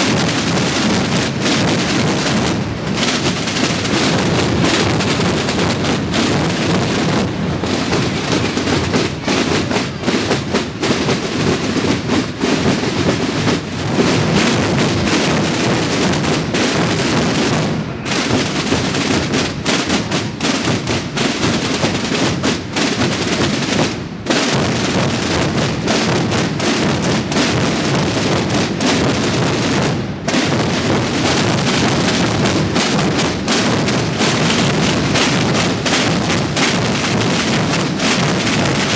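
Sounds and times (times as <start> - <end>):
bass drums rolling: 0.0 - 21.2, 24.5 - 38.9
side drums rolling: 0.0 - 38.9.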